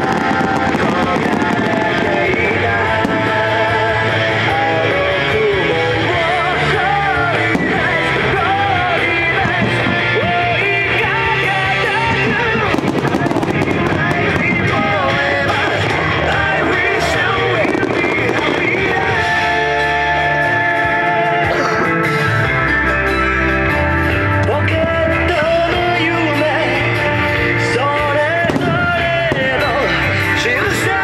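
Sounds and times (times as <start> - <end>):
background music with held chords: 0.0 - 31.0.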